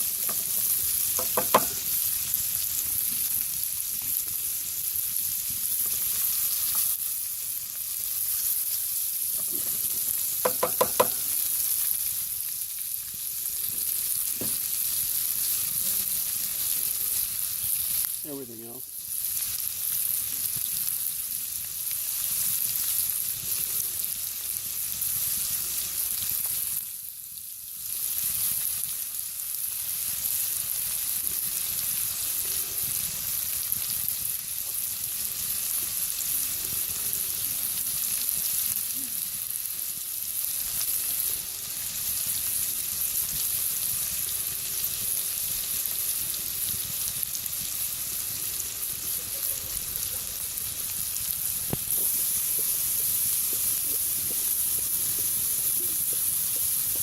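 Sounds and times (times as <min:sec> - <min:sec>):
onions sizzling in a frying pan: 0:00.0 - 0:57.0.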